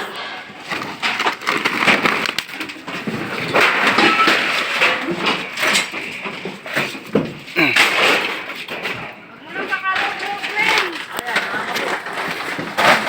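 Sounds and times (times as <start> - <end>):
scrap metal clattering and crunching: 0.0 - 13.0.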